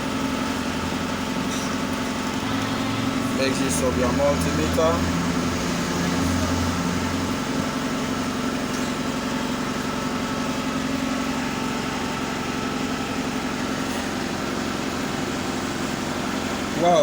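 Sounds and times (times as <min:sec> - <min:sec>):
machine motor droning: 0:00.0 - 0:17.0.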